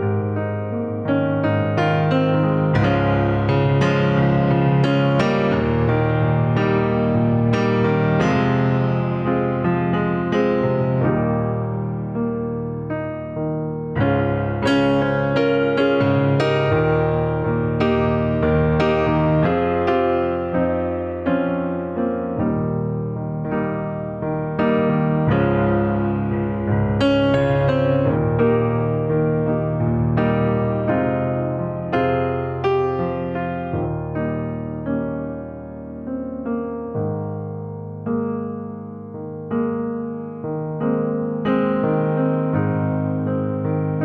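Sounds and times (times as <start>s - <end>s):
soft electric piano chords: 0.0s - 44.0s.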